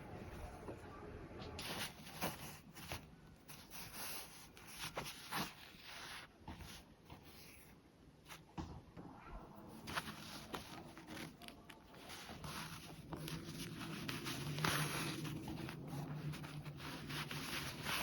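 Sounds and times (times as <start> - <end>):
fabric rustling: 1.6 - 8.9, 9.5 - 18.0.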